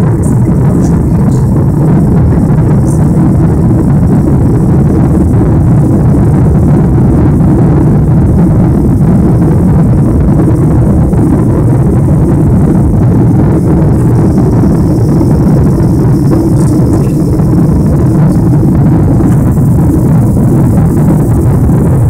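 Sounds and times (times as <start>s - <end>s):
airplane cabin engine noise: 0.0s - 22.0s.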